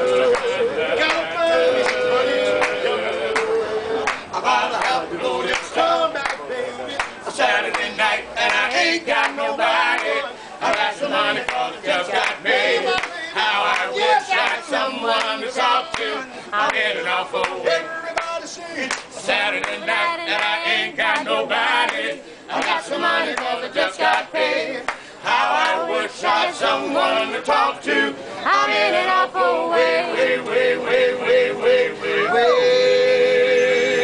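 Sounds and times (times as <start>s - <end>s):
men singing in harmony: 0.0s - 34.0s.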